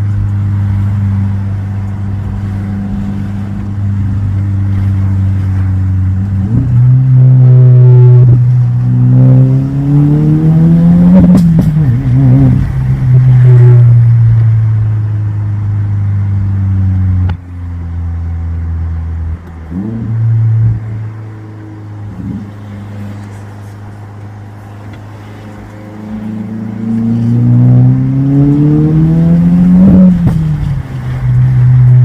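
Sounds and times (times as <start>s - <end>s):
car engine droning under load: 0.0s - 32.0s.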